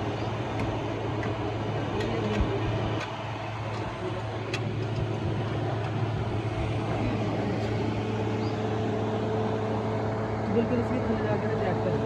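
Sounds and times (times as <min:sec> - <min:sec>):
motor engine humming: 0:00.0 - 0:12.0.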